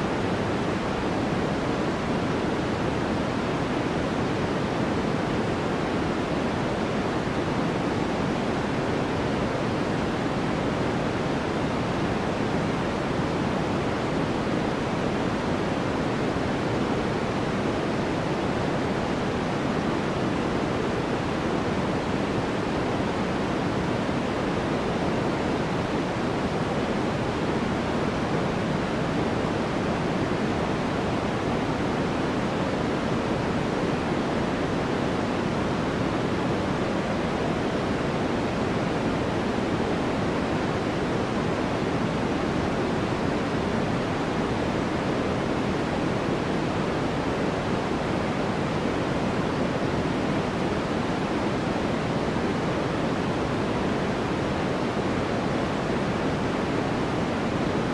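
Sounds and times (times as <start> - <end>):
soft deep white noise: 0.0 - 57.9.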